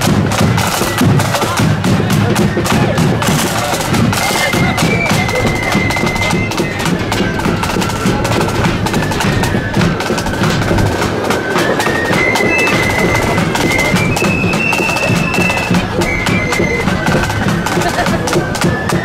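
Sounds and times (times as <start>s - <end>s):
bass drum: 0.0s - 19.0s
flutes playing melody: 0.0s - 19.0s
side drum strokes: 0.0s - 19.0s.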